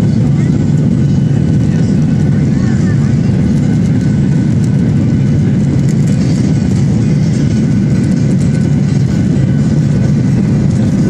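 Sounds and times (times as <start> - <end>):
jet engines at climb thrust: 0.0 - 11.0
rushing airflow: 0.0 - 11.0.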